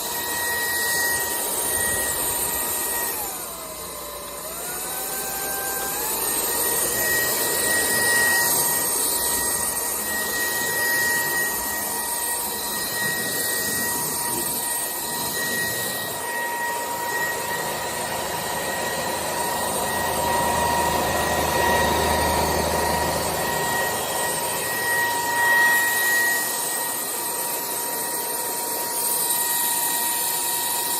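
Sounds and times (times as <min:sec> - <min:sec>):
stick vacuum whining: 0:00.0 - 0:30.9.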